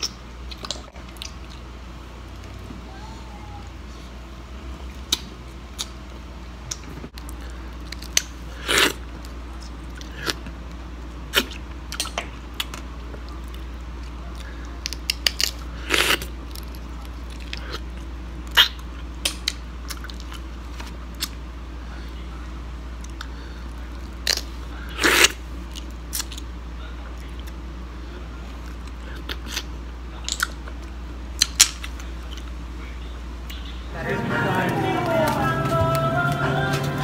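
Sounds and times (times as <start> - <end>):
eating sounds: 0.0 - 4.1, 4.8 - 21.4, 23.0 - 37.0.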